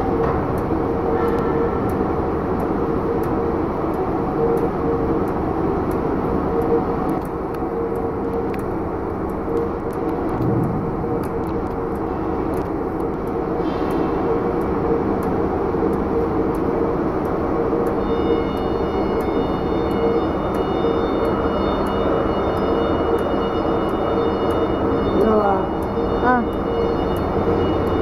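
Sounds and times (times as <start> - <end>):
machinery whine: 0.0 - 28.0
ride machinery humming: 0.0 - 28.0.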